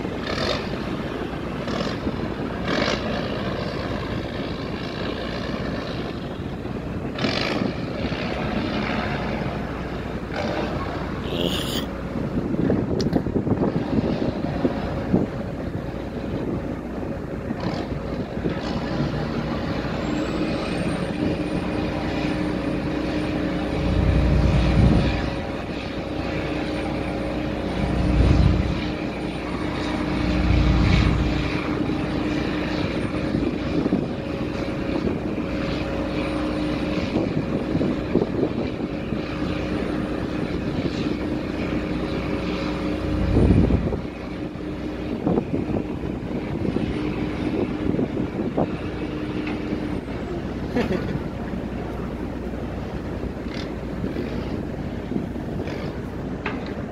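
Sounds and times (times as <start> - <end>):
wind buffeting microphone: 0.0 - 11.2, 11.9 - 56.9
ship engines droning: 0.0 - 56.9.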